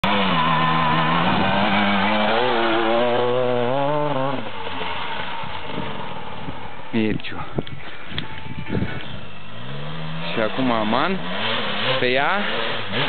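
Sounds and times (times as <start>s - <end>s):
dirt bike engine revving: 0.0s - 6.5s, 8.7s - 13.0s.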